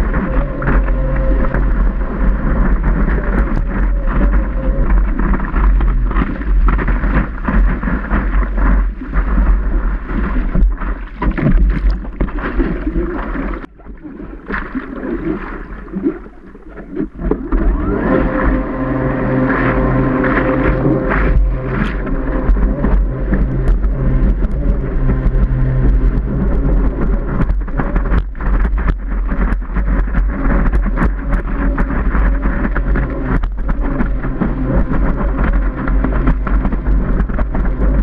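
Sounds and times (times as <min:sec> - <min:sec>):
wind buffeting microphone: 0:00.0 - 0:14.1, 0:14.7 - 0:38.0
steady hum: 0:00.0 - 0:38.0
water rushing and spraying: 0:00.0 - 0:38.0.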